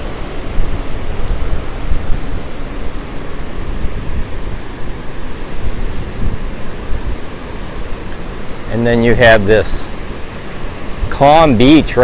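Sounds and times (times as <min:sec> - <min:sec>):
surf rushing: 0:00.0 - 0:12.0
wind buffeting microphone: 0:00.0 - 0:12.0.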